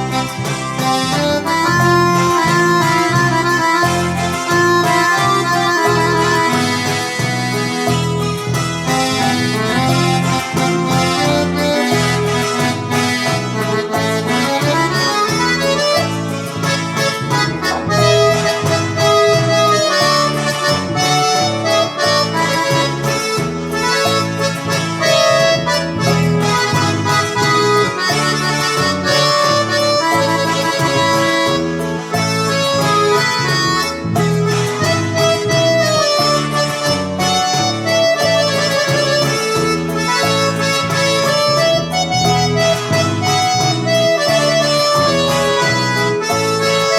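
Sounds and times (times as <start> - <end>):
electronic keyboard music: 0.0 - 46.9.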